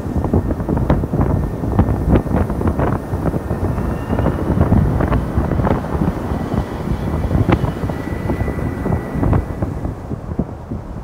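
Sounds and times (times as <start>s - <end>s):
jet engine whine: 0.0s - 11.0s
wind buffeting microphone: 0.0s - 11.0s.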